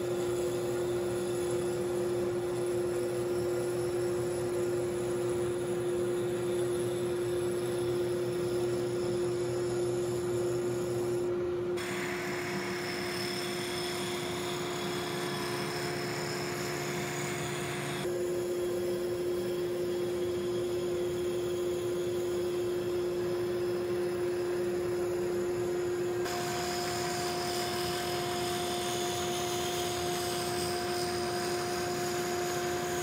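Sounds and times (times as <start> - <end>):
wood lathe and dust collector hum: 0.0 - 33.0.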